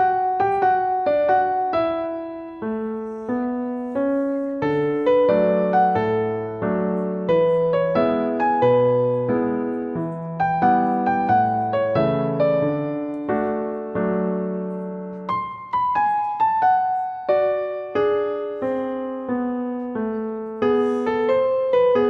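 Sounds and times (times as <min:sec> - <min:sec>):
gentle electric piano melody: 0:00.0 - 0:22.0.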